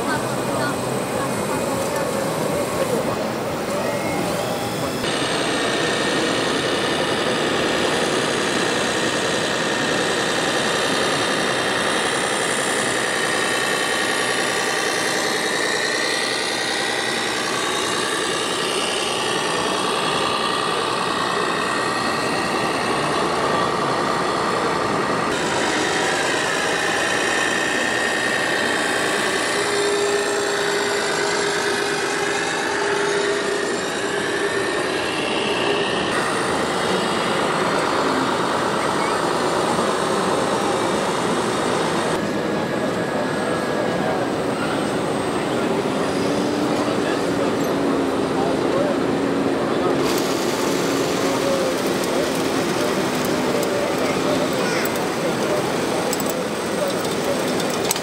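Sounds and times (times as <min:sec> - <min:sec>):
engine-like drone: 0:00.0 - 0:58.0
motors whining: 0:00.0 - 0:58.0.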